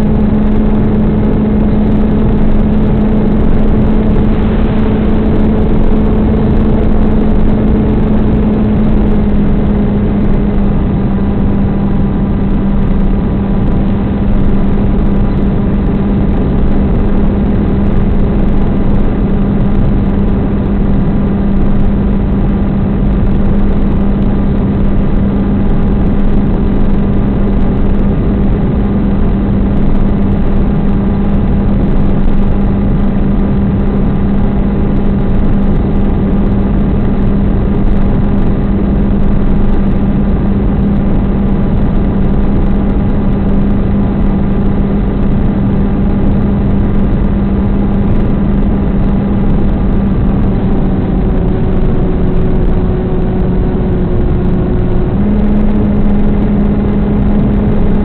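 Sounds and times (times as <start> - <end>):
electric motor and propeller humming: 0.0 - 58.0
rushing air noise: 0.0 - 58.0.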